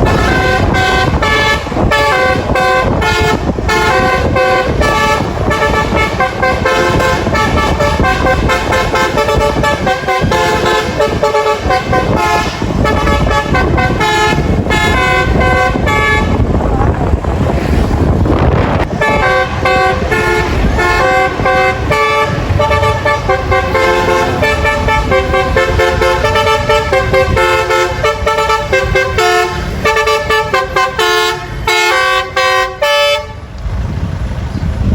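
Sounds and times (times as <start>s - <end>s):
multi-tone bus horn melody: 0.0s - 33.6s.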